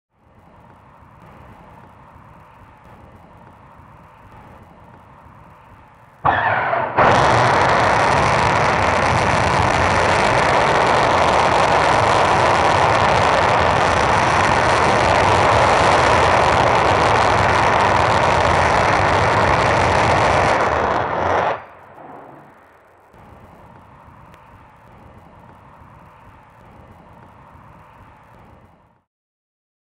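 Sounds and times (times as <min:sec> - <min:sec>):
rocket engines firing: 0:00.3 - 0:29.0.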